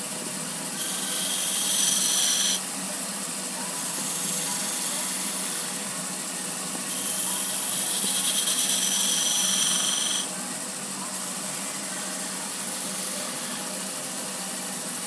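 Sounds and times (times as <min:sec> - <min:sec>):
turning tool cutting wood: 0:00.0 - 0:02.8, 0:03.7 - 0:15.0
wood lathe humming: 0:00.0 - 0:15.0.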